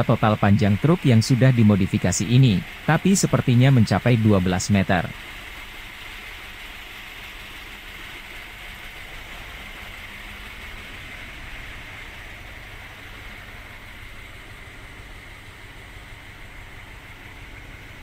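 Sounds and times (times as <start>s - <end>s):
diesel truck engine idling: 0.0s - 18.0s
steady high hum: 0.0s - 18.0s.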